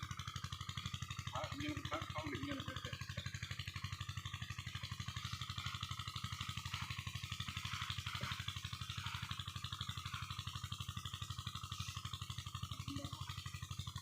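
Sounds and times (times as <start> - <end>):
diesel engine knocking: 0.0 - 14.0.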